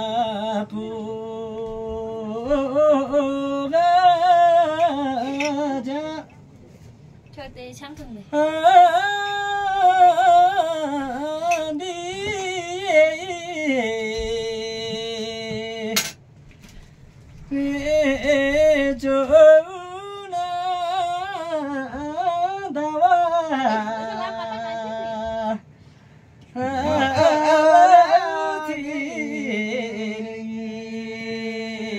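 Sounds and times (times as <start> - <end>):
man singing unaccompanied: 0.0 - 6.4, 8.3 - 16.2, 17.5 - 25.6, 26.5 - 31.9.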